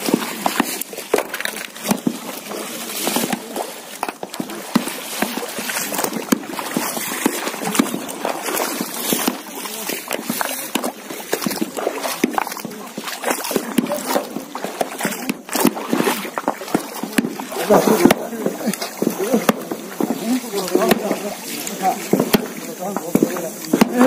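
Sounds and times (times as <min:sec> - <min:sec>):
river water splashing: 0:00.0 - 0:24.0
rocks knocking: 0:00.0 - 0:24.0.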